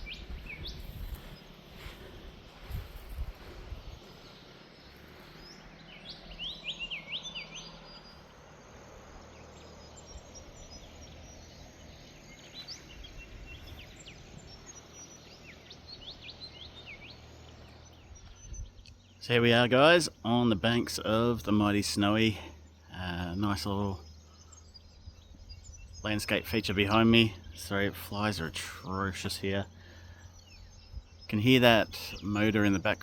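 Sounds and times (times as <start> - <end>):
background hiss: 0.0 - 32.2
birds whistling calls: 0.0 - 33.0
distant motor hum: 0.0 - 33.0.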